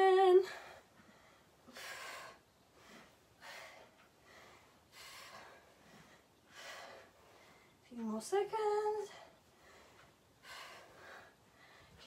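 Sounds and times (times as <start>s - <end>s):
woman breathing heavily: 0.3s - 7.9s, 8.9s - 12.0s.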